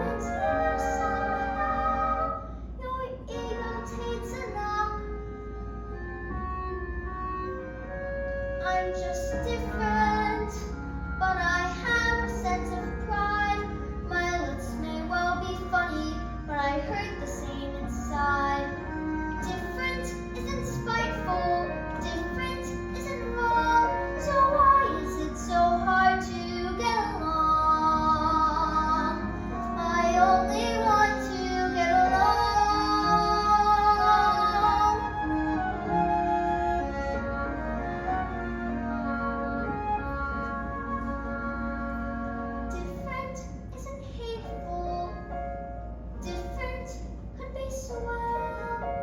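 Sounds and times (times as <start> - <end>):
musical accompaniment: 0.0 - 49.0.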